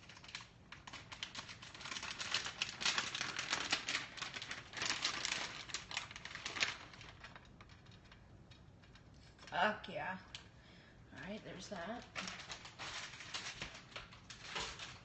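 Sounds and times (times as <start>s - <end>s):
plastic package crinkling: 0.0s - 9.7s, 11.8s - 15.0s.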